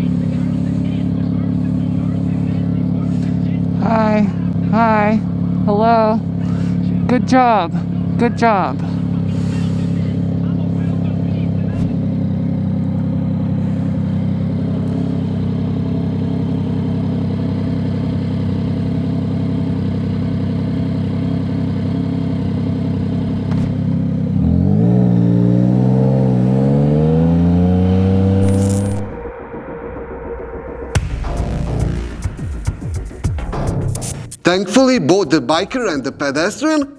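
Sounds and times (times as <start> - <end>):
motorcycle engine running: 0.0 - 29.7, 31.0 - 34.4.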